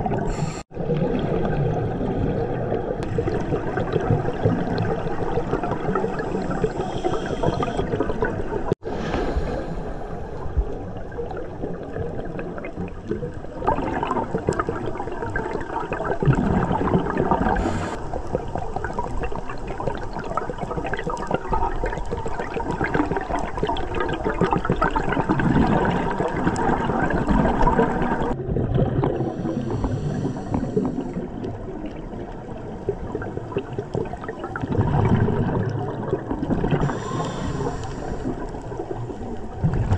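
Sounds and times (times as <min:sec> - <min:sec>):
rushing underwater noise: 0:00.0 - 0:39.9.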